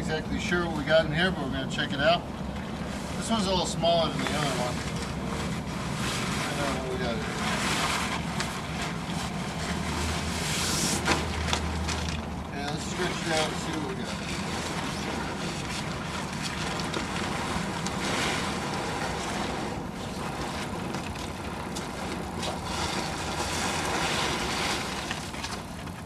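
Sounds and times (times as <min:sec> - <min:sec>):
sailcloth rustling and crinkling: 0:02.6 - 0:26.0.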